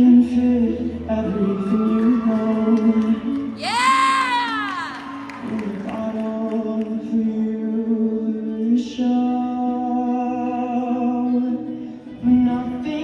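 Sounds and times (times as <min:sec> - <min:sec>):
music: 0:00.0 - 0:13.0
singing voice holding long notes: 0:00.0 - 0:13.0.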